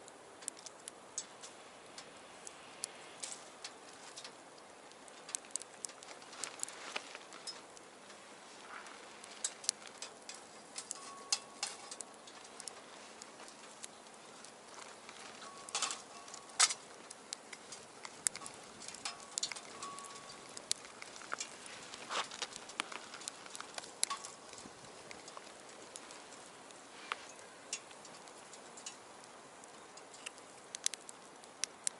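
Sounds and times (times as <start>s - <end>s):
wood fire crackling in a stove: 0.0s - 31.9s.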